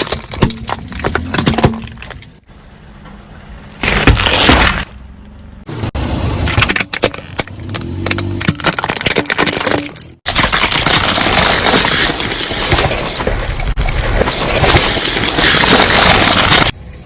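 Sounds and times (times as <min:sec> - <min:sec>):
crunching under car tyre: 0:00.0 - 0:02.4, 0:03.8 - 0:05.0, 0:06.4 - 0:16.8.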